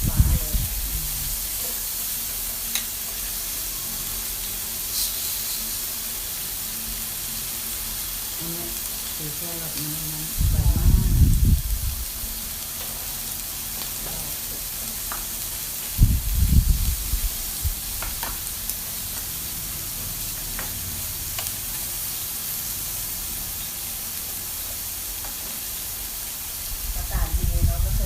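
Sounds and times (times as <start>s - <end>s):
pork sizzling on a grill: 0.0s - 28.0s.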